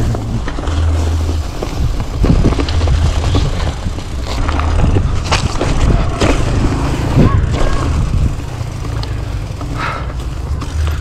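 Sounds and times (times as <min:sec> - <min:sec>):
bike knocks and rattles: 0:00.0 - 0:11.0
bike rumbling over grass: 0:00.0 - 0:11.0.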